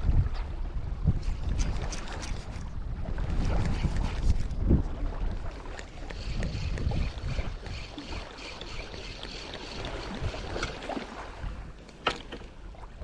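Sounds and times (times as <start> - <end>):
wind on microphone: 0.0 - 11.8.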